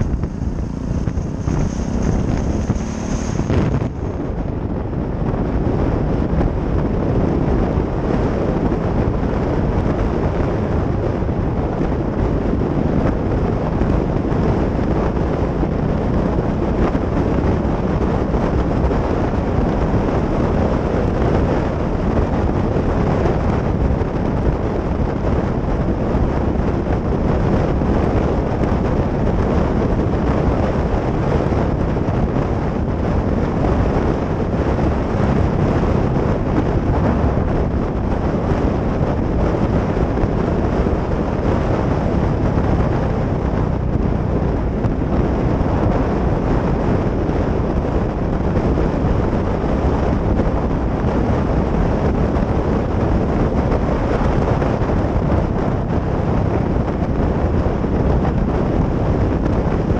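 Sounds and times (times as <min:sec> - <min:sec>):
motorcycle engine cruising: 0:00.0 - 0:59.9
wind roar over helmet: 0:00.0 - 0:59.9.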